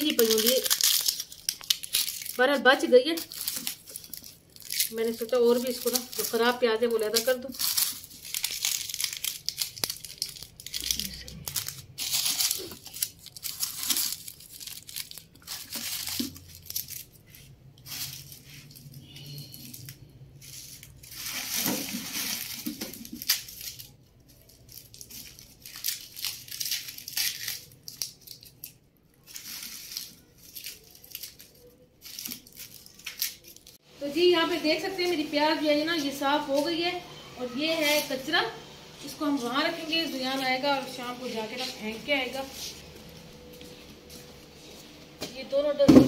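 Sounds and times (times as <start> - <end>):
onion skins crackling and rustling: 0.0 - 46.0.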